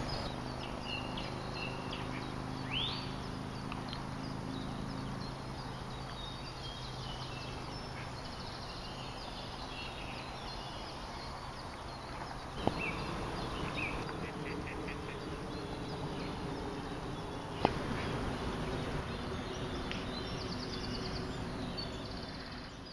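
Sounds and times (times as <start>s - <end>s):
small birds chirping: 0.0s - 22.9s
steady background hiss: 0.0s - 22.9s.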